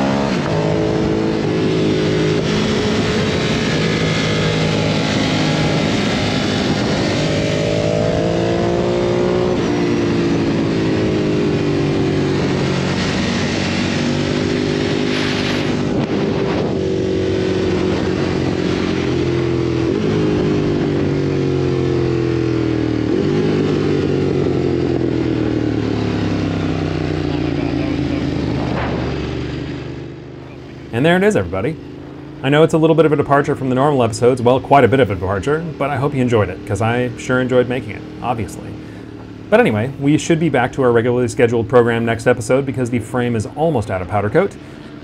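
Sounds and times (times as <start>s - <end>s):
motorcycle engine revving: 0.0s - 45.0s
wind and road rush: 0.0s - 45.0s.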